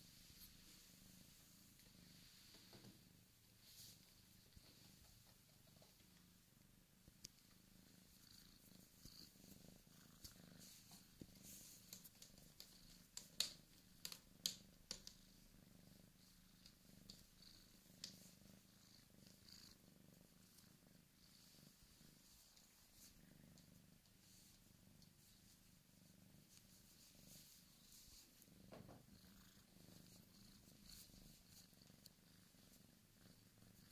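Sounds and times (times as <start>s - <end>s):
kitten purring: 0.0s - 33.9s.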